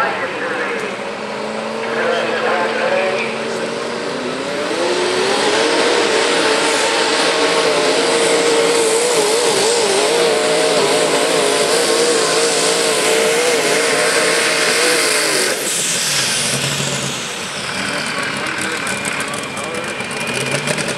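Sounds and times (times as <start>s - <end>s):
tractor engine at high revs: 0.0s - 20.9s.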